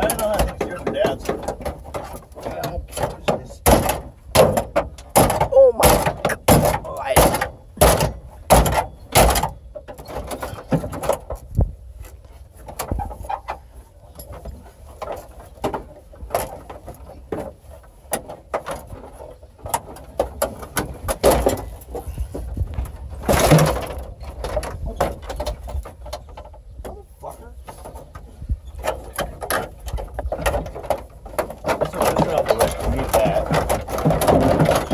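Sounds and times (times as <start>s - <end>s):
dashboard parts being pried and broken: 0.0s - 27.0s, 27.6s - 34.9s.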